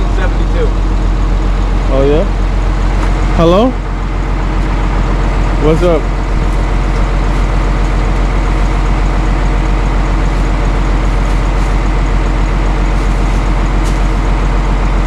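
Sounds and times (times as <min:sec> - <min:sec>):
heavy truck engine idling: 0:00.0 - 0:15.0.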